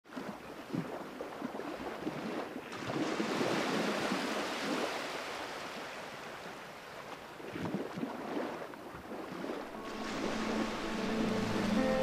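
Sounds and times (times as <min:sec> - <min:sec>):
ocean waves washing: 0:00.2 - 0:12.0.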